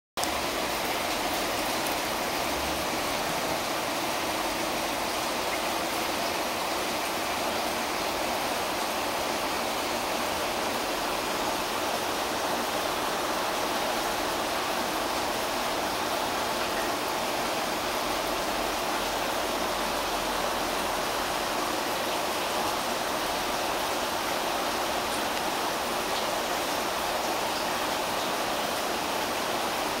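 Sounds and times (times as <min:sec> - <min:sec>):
running water rushing: 0:00.2 - 0:30.0.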